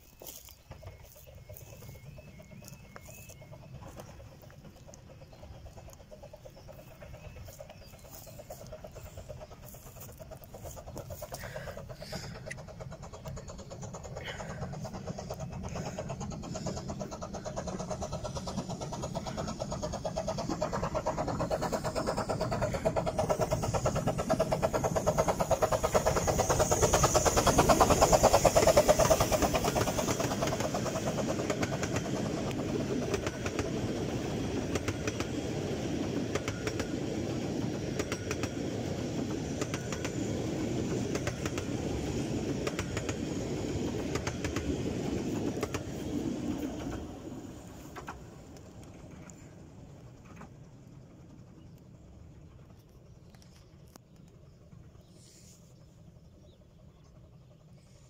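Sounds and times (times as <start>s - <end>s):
coaches rolling on rails: 0.0s - 55.0s.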